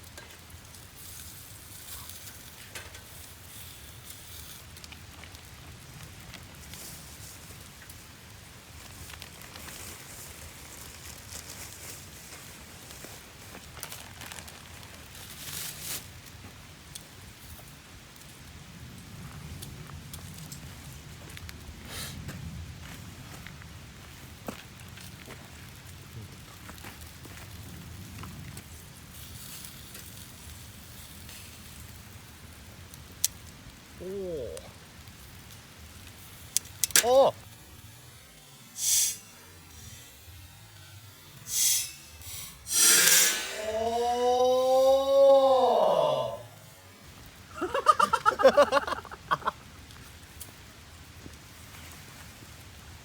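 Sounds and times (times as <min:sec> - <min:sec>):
campfire crackling and popping: 0:00.0 - 0:53.0
fire hissing: 0:00.0 - 0:53.0.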